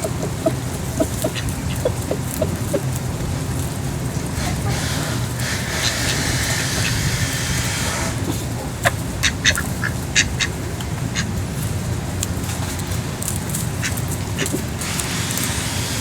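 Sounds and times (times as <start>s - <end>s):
ducks quacking: 0.0s - 16.0s
steady low rumble: 0.0s - 16.0s.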